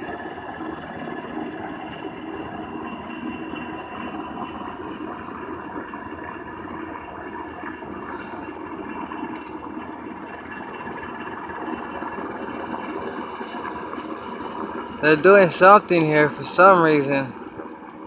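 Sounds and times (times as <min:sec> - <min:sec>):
helicopter hovering overhead: 0:00.0 - 0:18.0.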